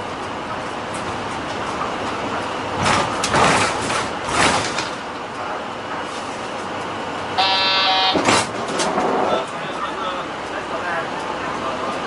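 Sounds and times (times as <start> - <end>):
bus cabin noise: 0.0 - 12.0.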